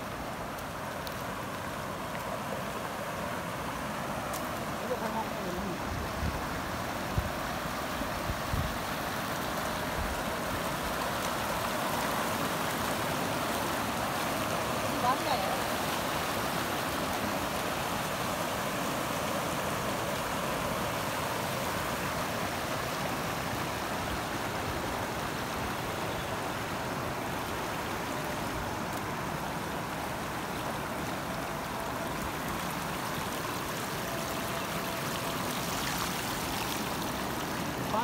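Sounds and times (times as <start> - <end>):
water rushing over stones: 0.0 - 38.0.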